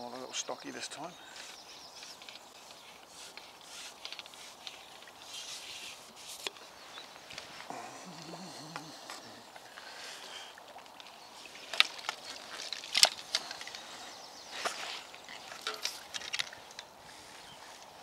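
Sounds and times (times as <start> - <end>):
fishing pole and tackle clicking: 1.4 - 17.0.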